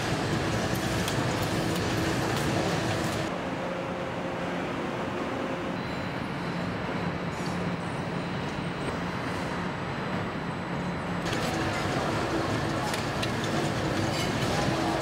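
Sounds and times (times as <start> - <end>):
assembly line machinery hum: 0.0 - 15.0.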